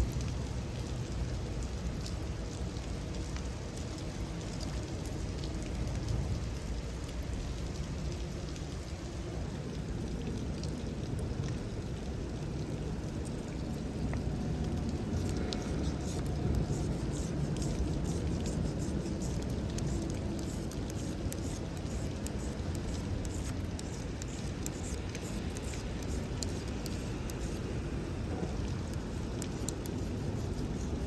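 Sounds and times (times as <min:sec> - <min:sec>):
campfire crackling and popping: 0:00.0 - 0:31.0
steady low rumble: 0:00.0 - 0:31.0.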